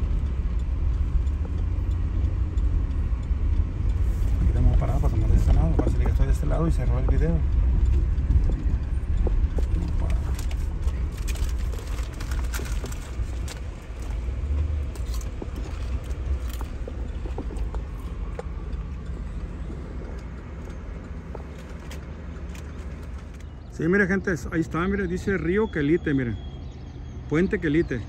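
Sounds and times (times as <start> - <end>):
light rattles and clicks: 0.0 - 23.8
car road and engine rumble: 0.0 - 28.0.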